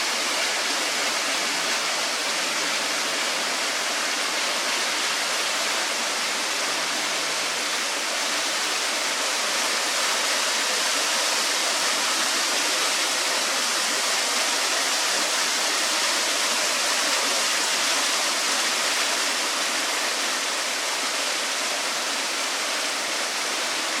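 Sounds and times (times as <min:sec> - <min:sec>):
small waterfall pouring: 0:00.0 - 0:24.0.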